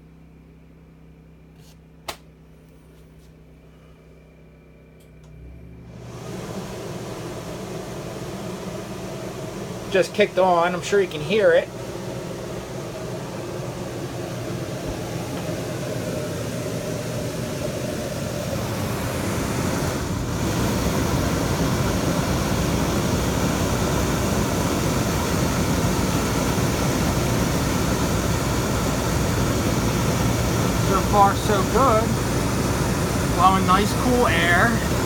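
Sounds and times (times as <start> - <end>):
air conditioner fan and compressor: 0.0 - 35.0.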